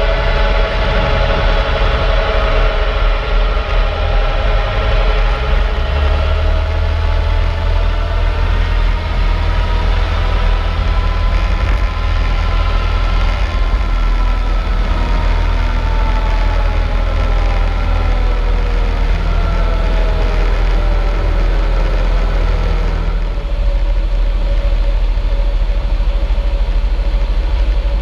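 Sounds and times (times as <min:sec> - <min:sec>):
propeller plane engine drone: 0:00.0 - 0:28.0.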